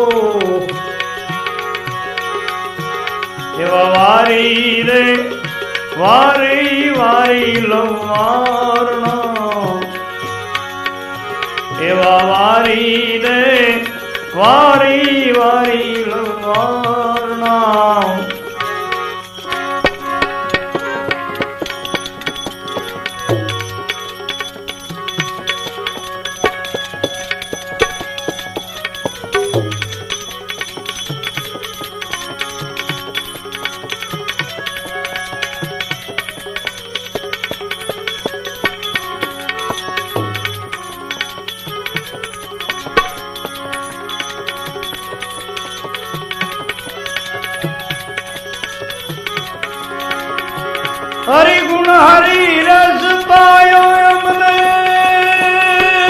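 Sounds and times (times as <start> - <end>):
hand-drum strokes: 0.0 - 56.0
held melody notes: 0.0 - 56.0
person singing devotional song: 0.0 - 56.0
tabla rhythm: 0.0 - 56.0.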